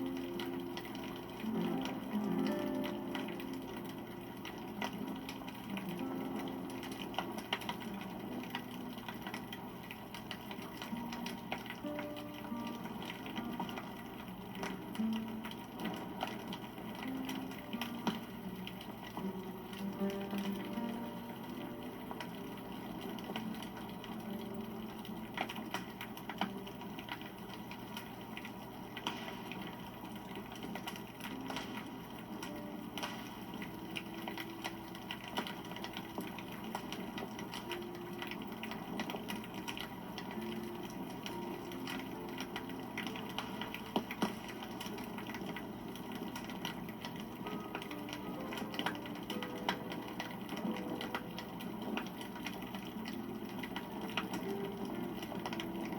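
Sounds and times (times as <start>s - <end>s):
burning wood crackling: 0.0s - 55.9s
campfire flames rushing: 0.0s - 55.9s.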